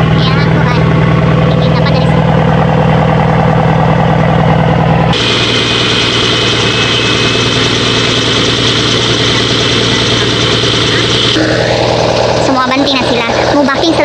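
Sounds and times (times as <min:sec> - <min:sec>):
steady high whine: 0:00.0 - 0:14.0
truck engine idling: 0:00.0 - 0:14.0.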